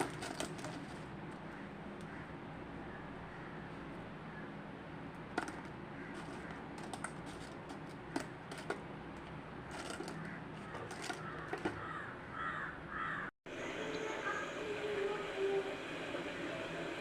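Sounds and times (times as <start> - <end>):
faint steady background hum: 0.0 - 17.0.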